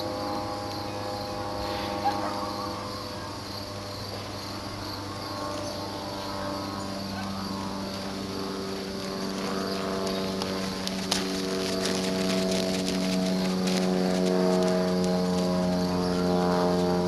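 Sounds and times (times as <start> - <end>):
distant engine drone: 0.0 - 17.0
insects chirring: 0.0 - 17.0.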